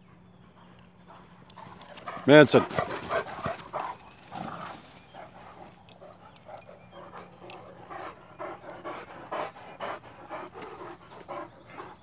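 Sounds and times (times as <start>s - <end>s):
large dogs panting: 0.0s - 12.0s.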